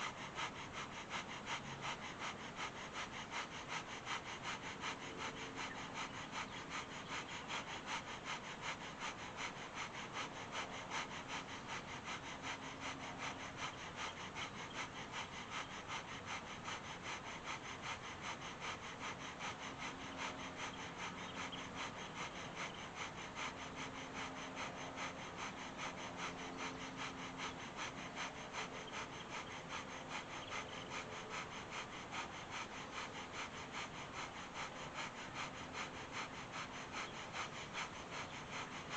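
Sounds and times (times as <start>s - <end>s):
rapid rhythmic nose breathing: 0.0s - 38.9s.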